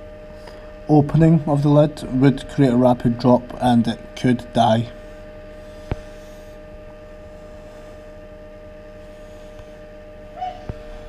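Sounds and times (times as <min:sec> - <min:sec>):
egg incubator humming: 0:00.0 - 0:11.0.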